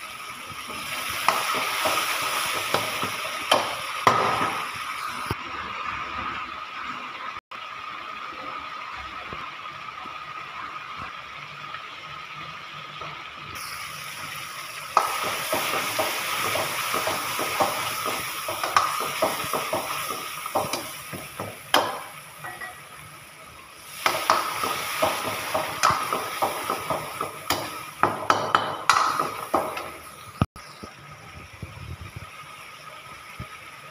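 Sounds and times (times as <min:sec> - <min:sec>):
frying sizzle: 0:00.0 - 0:33.9.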